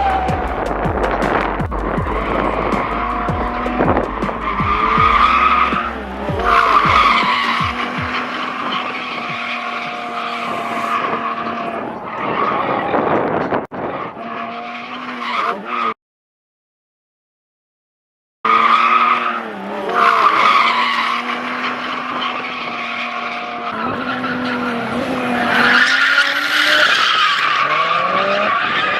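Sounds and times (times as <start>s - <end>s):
car engine revving: 0.0s - 13.0s, 18.5s - 28.9s
tires squealing: 0.0s - 16.0s, 18.5s - 28.9s.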